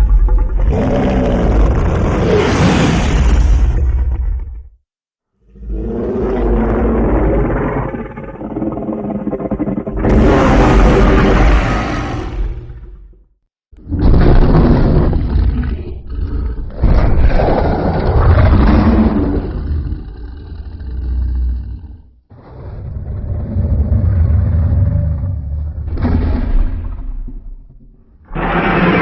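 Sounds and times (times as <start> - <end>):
monster roar: 0.0 - 4.4, 5.5 - 13.1, 13.8 - 26.6, 28.3 - 29.0.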